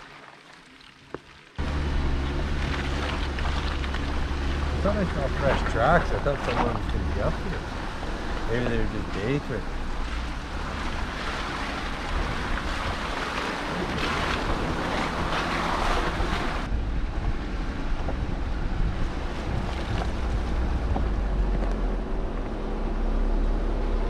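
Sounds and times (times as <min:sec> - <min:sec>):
wind and tyre noise: 0:01.0 - 0:24.0
engine and drivetrain rumble: 0:01.6 - 0:24.0.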